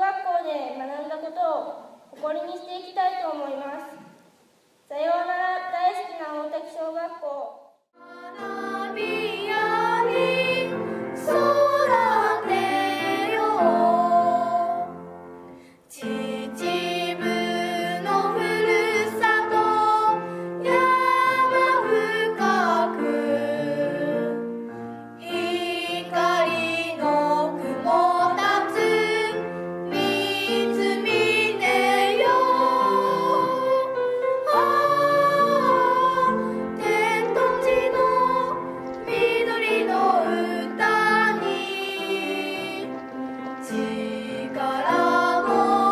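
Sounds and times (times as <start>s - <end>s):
high voices singing: 8.0s - 24.6s, 25.2s - 45.9s.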